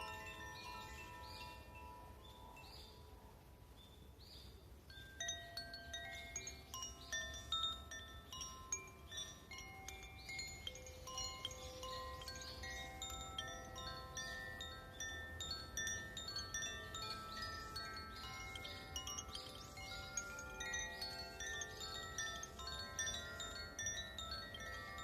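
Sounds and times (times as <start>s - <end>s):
metal chimes ringing: 0.0s - 3.0s, 4.9s - 25.0s.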